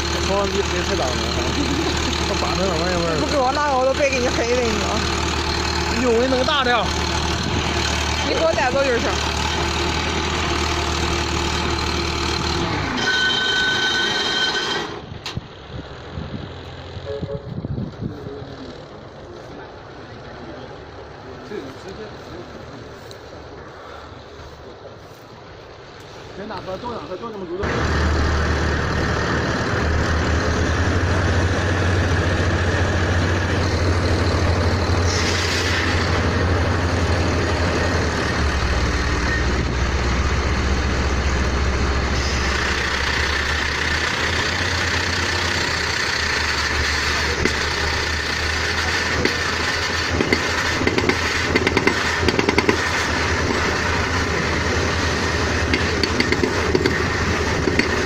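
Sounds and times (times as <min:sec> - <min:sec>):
drilling rig engine running: 0:00.0 - 0:58.0.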